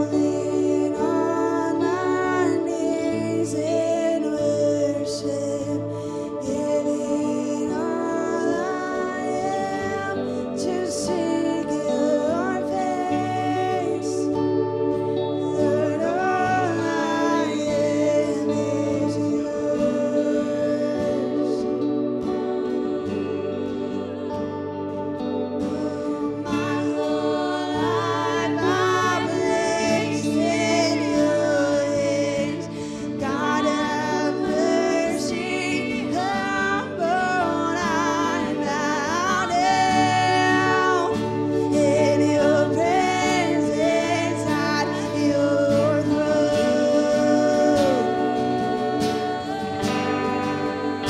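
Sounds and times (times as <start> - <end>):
ambient pad chord: 0.0 - 51.0
electric and acoustic guitars: 0.0 - 51.0
women singing: 0.0 - 51.0.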